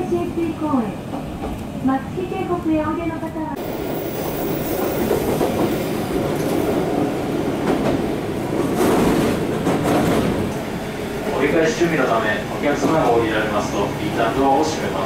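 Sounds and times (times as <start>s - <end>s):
diesel railcar running: 0.0s - 15.0s.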